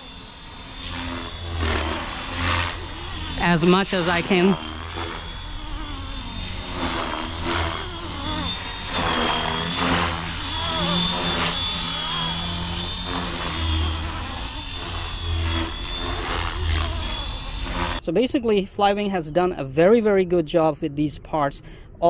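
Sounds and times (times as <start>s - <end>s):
rc helicopter motor and rotor whine: 0.0s - 18.1s.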